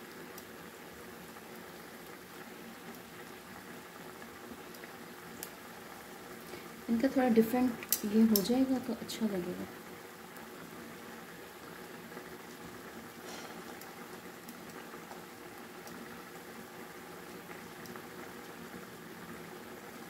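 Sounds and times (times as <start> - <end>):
food bubbling in a pan: 0.0 - 20.0.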